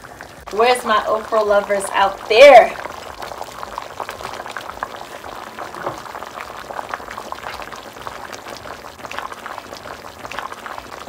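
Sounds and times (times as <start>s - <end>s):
stew boiling in a pot: 0.0s - 11.0s.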